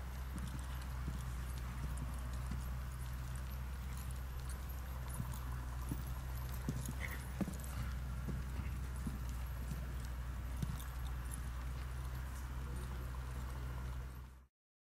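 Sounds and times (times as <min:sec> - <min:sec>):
horse hoofbeats on snow: 0:00.0 - 0:14.5
steady low hum: 0:00.0 - 0:14.5.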